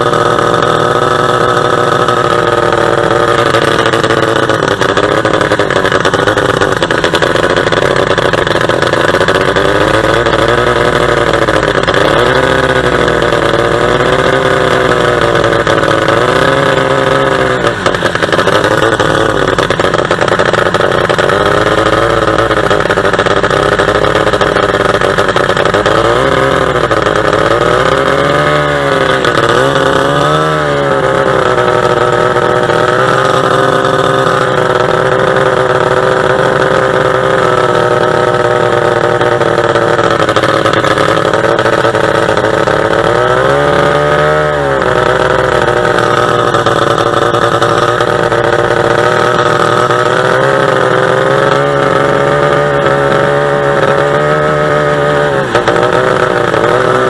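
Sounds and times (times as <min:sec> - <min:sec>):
boat engine running hard: 0:00.0 - 0:57.0.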